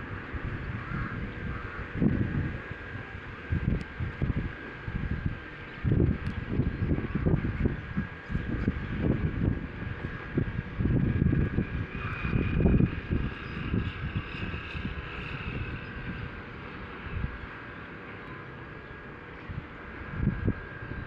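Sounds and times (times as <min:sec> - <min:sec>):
wind buffeting microphone: 0:00.0 - 0:18.1, 0:19.2 - 0:21.0.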